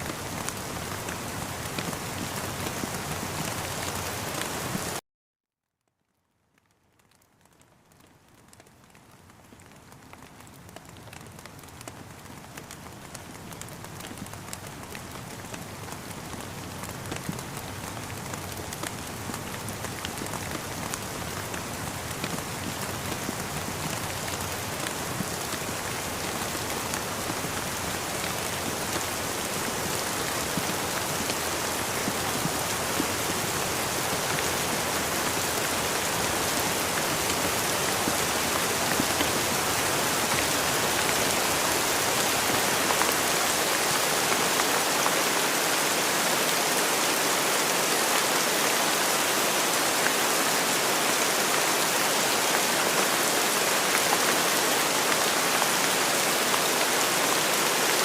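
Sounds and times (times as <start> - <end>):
rain patter: 0.0 - 5.0, 6.0 - 58.0.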